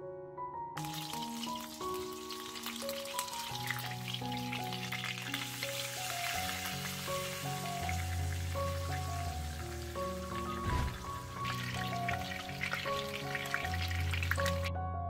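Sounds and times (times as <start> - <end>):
background music: 0.0 - 15.0
chicken sizzling in oil: 0.8 - 14.7.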